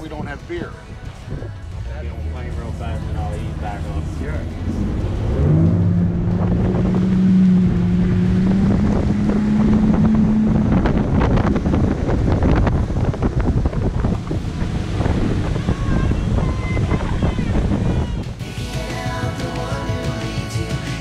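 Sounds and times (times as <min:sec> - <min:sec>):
wind buffeting microphone: 0:00.0 - 0:18.4
rushing water: 0:00.0 - 0:21.0
outboard boat engine running: 0:01.2 - 0:21.0.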